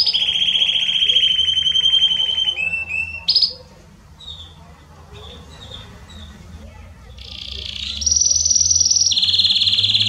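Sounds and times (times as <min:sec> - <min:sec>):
canary singing trills: 0:00.0 - 0:10.0
faint bird chirps: 0:00.0 - 0:10.0.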